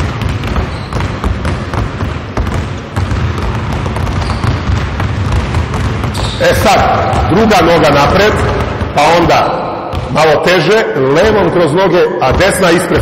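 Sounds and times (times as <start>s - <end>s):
basketballs bouncing on wooden floor: 0.0s - 11.6s, 12.2s - 13.0s.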